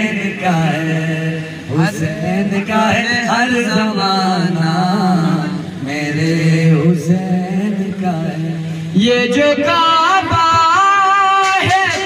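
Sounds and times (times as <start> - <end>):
deep male voice chanting: 0.0 - 12.0
higher male voice singing: 0.0 - 12.0.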